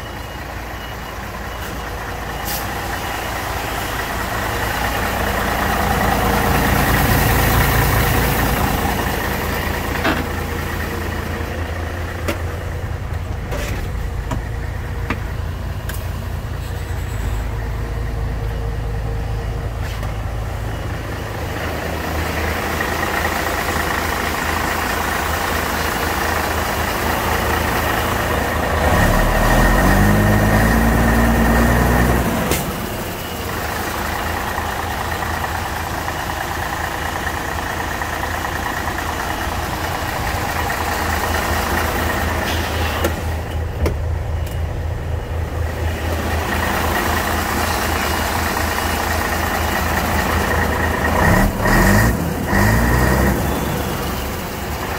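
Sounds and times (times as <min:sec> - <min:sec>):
diesel truck engine idling and revving: 0:00.0 - 0:54.9.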